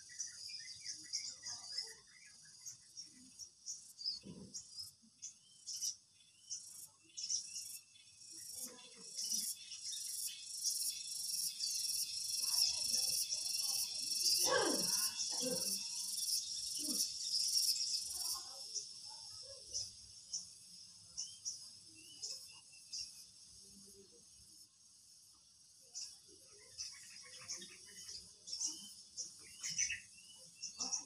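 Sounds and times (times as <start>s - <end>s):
insects chirping: 5.2s - 31.0s.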